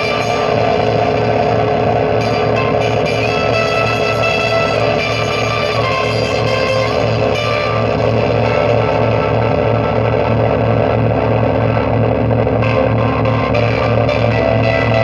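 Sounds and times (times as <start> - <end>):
electric guitar playing: 0.0 - 15.0
pulsing bass: 0.0 - 15.0.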